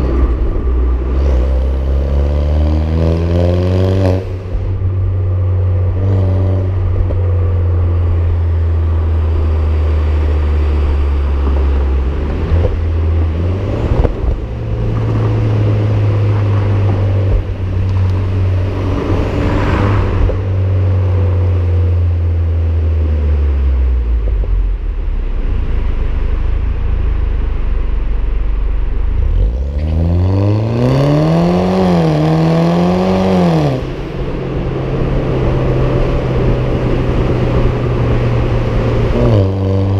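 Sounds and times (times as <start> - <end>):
car engine exhaust drone: 0.0 - 39.9.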